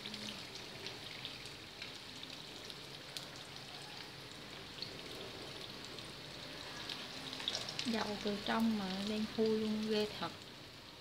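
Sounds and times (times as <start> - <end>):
hot oil sizzling with pops: 0.0 - 11.0.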